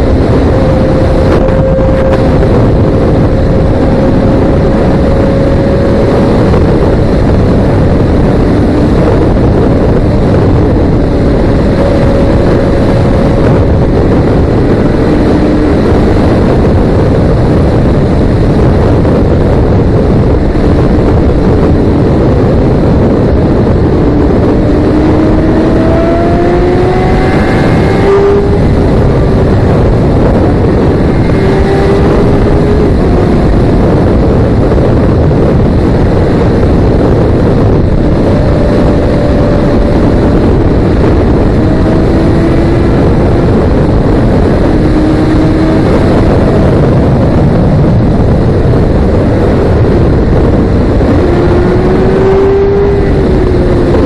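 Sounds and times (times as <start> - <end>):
motorcycle engine revving through gears: 0.0 - 54.0
wind rushing on microphone: 0.0 - 54.0.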